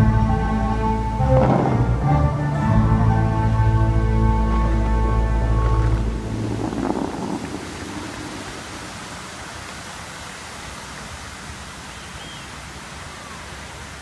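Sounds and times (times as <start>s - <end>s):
fountain water rushing: 0.0s - 14.0s.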